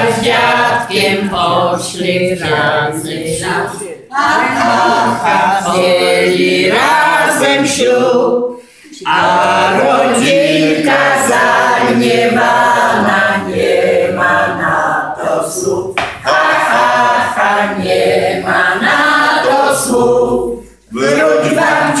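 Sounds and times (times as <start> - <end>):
group of people singing: 0.0 - 22.0.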